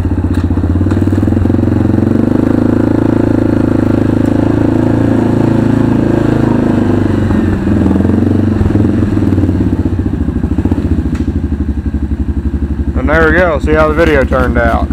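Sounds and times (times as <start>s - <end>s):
atv engine running: 0.0s - 14.9s.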